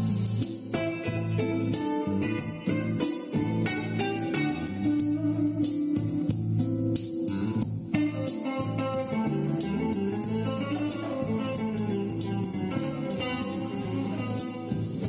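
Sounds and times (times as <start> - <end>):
backing groove with bass and beat: 0.0 - 15.0
electric guitar lead line: 0.0 - 15.0.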